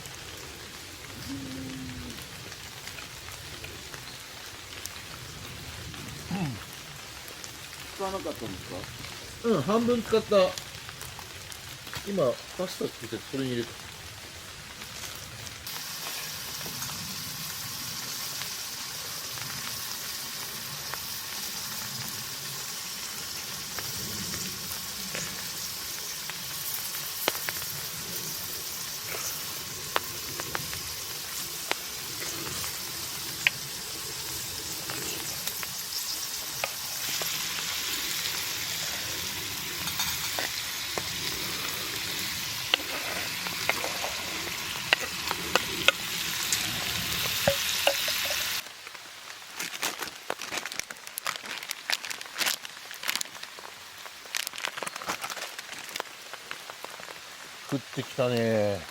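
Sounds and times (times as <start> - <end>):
food sizzling in a pan: 0.0 - 58.9.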